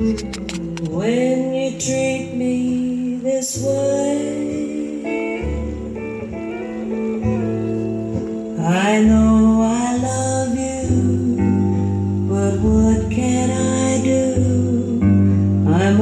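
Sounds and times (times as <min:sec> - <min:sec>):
song with guitar and singing: 0:00.0 - 0:16.0.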